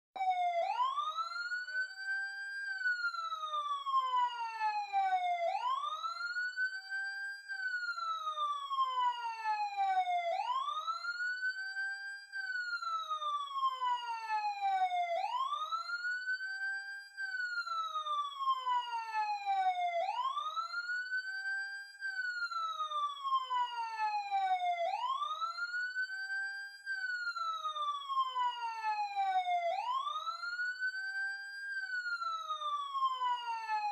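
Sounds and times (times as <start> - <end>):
police siren wailing: 0.2 - 33.9.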